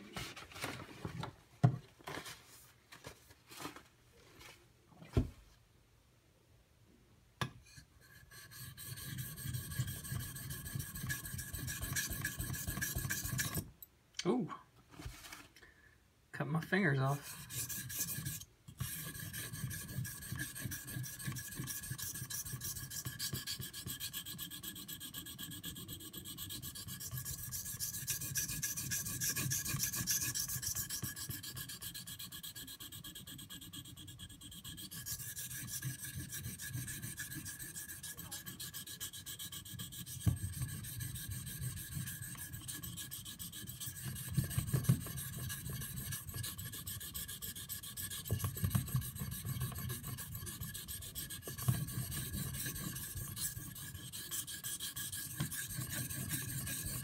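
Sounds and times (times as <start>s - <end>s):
knife scraping on whetstone: 7.7s - 13.7s, 17.2s - 57.0s.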